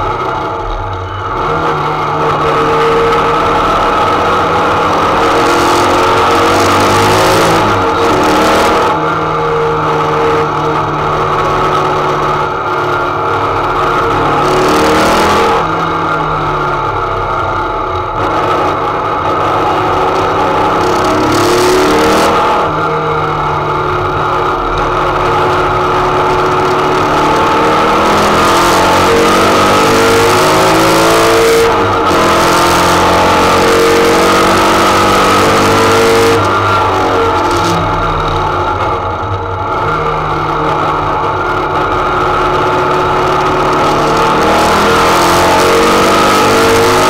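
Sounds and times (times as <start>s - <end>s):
car engine revving under load: 0.0s - 47.0s.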